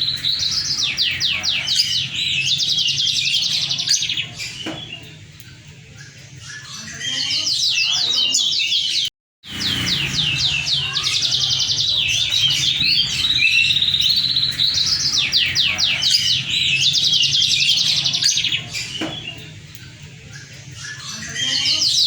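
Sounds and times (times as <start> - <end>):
canary singing trills and chirps: 0.0 - 22.0.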